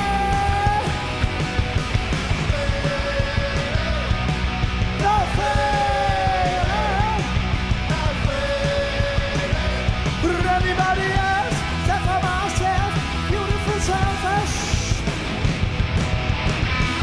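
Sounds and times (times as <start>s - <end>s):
bass guitar: 0.0s - 17.0s
distorted electric guitar: 0.0s - 17.0s
drums at a fast beat: 0.0s - 17.0s.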